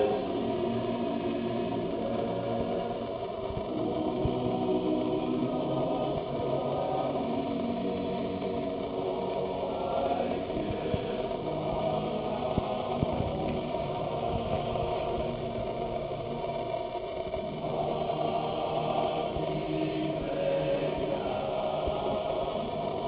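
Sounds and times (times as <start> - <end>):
music with long held notes: 0.0 - 23.0.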